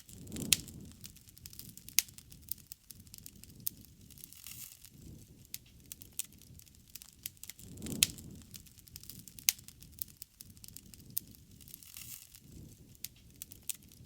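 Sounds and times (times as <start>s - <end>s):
bonfire crackling and popping: 0.0s - 14.0s
low rush of flames: 0.0s - 14.0s.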